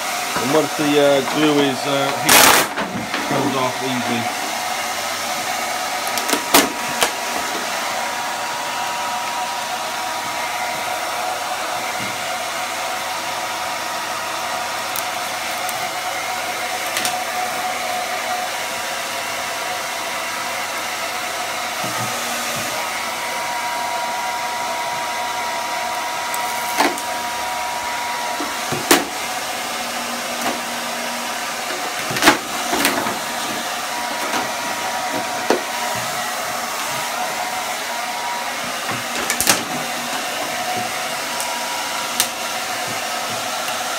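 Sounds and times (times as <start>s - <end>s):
hair dryer running: 0.0s - 43.9s.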